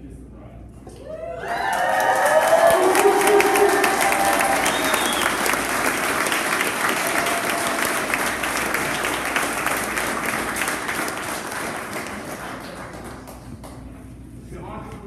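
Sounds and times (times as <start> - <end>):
crowd applauding: 1.1 - 14.0.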